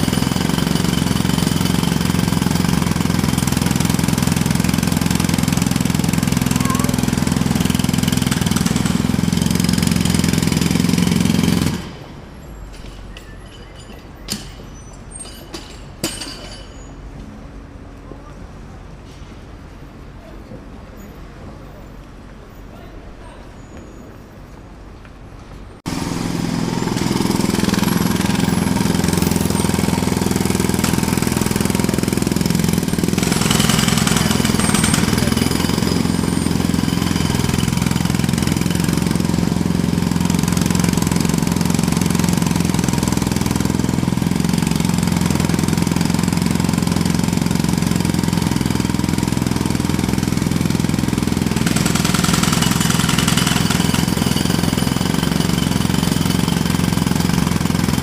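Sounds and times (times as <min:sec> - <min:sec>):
jackhammer hammering: 0:00.0 - 0:12.2, 0:14.3 - 0:16.8, 0:25.8 - 0:58.0.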